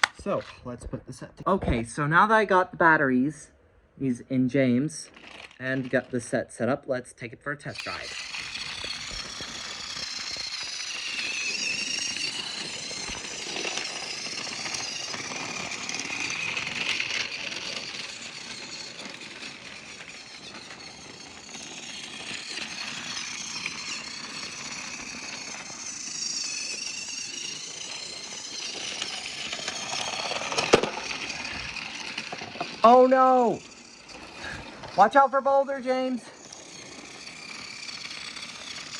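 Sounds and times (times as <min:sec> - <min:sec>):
toy train motor whirring: 0:00.0 - 0:00.7, 0:04.1 - 0:38.9.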